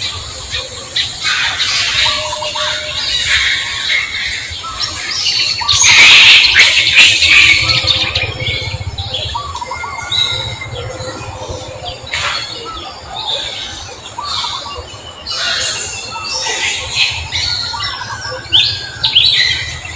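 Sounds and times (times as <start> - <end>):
animals chirping and squawking: 0.0 - 19.9.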